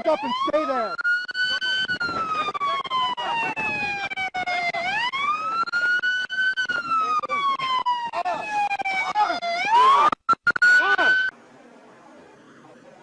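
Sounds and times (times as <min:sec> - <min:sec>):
police siren wailing: 0:00.0 - 0:11.4.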